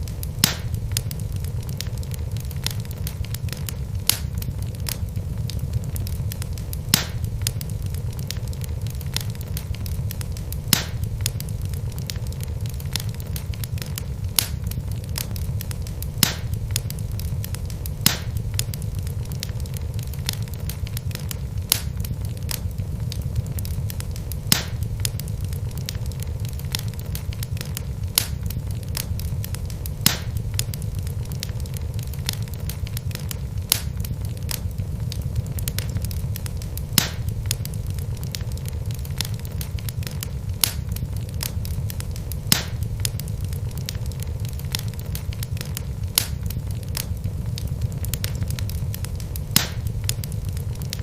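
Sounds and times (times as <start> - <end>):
fire crackles and pops: 0.0 - 51.0
fire rumbling in fireplace: 0.0 - 51.0.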